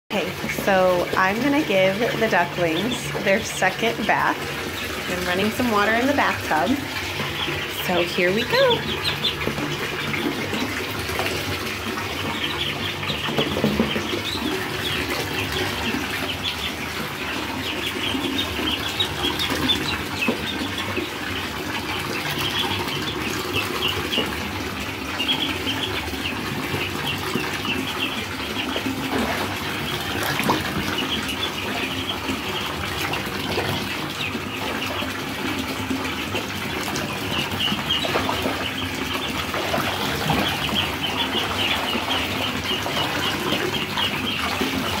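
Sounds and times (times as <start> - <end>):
ducklings peeping: 0.2 - 45.0
ducklings splashing in water: 0.2 - 45.0
tap running into tub: 0.2 - 45.0.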